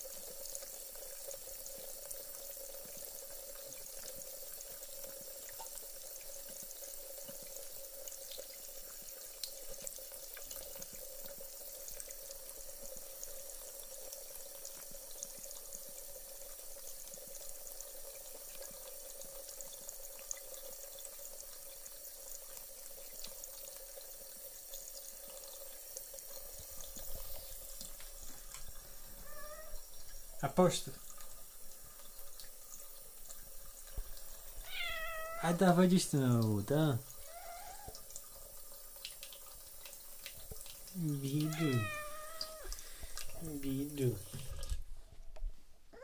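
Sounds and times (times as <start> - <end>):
tap water running into sink: 0.0 - 45.6.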